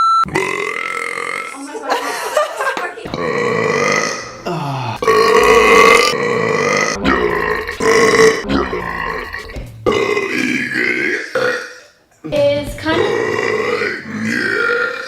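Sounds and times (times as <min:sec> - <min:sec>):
man belching loudly: 0:00.3 - 0:01.5, 0:03.1 - 0:11.9, 0:13.0 - 0:15.0.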